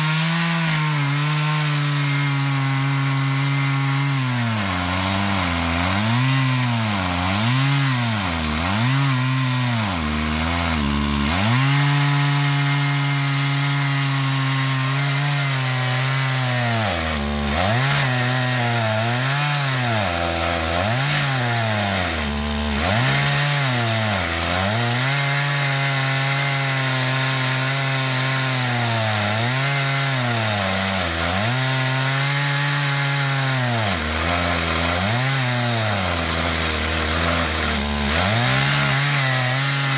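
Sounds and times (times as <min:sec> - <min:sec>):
chainsaw cutting log at high revs: 0:00.0 - 0:39.9.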